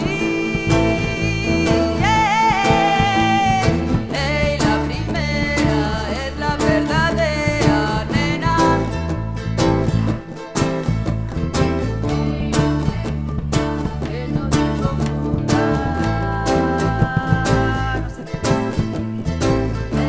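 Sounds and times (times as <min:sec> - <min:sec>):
repeating bass line: 0:00.0 - 0:20.0.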